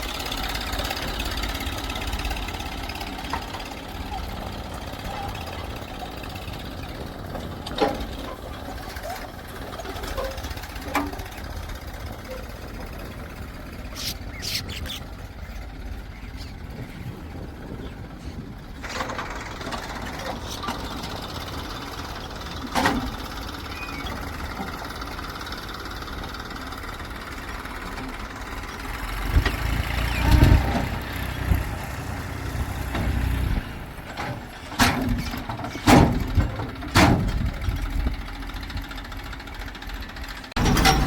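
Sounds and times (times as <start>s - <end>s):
heavy machinery diesel engine: 0.0s - 41.0s.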